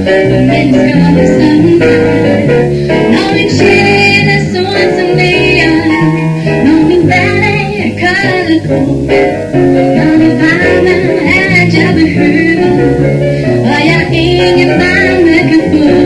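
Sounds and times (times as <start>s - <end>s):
woman singing: 0.0s - 9.2s, 9.8s - 16.0s.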